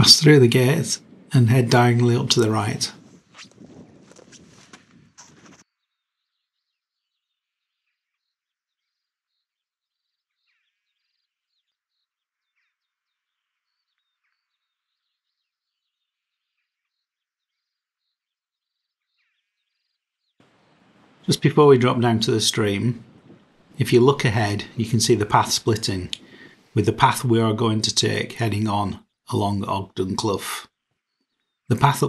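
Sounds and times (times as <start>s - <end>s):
small birds chirping and twittering: 0.0s - 32.0s.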